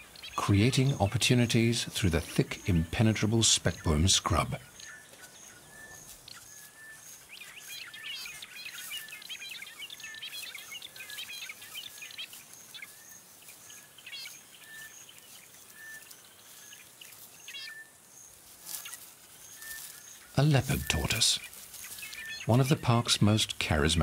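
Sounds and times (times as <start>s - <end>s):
birds twittering: 0.0s - 24.0s.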